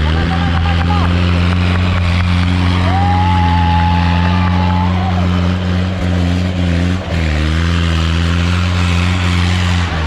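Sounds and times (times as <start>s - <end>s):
jeep engine running: 0.0s - 10.0s.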